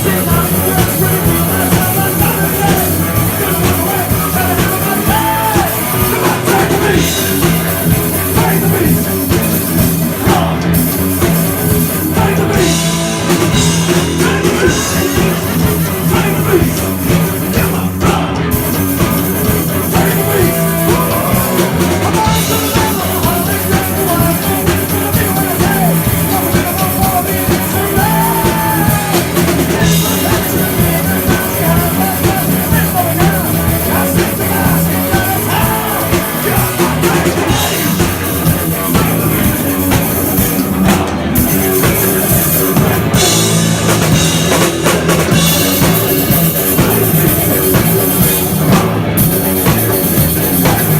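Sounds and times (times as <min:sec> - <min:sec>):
person singing: 0:00.0 - 0:09.4, 0:10.0 - 0:10.8, 0:12.0 - 0:18.7, 0:19.7 - 0:48.8
live rock band playing: 0:00.0 - 0:50.9.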